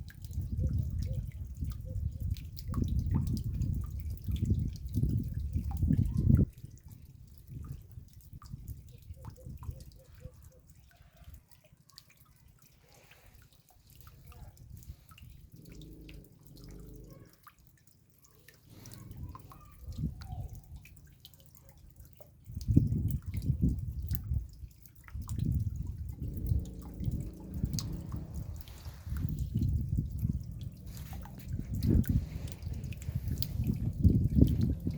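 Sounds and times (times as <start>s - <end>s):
raindrops dripping and tapping: 0.0s - 34.9s.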